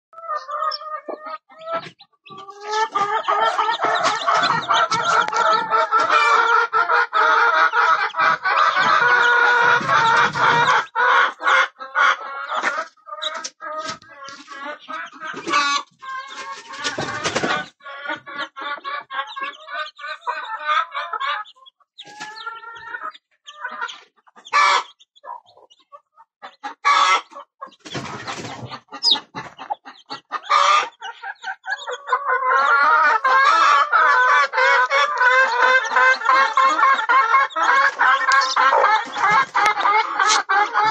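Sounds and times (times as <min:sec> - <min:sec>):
chicks peeping: 0:00.1 - 0:40.9
hen clucking: 0:00.2 - 0:40.9.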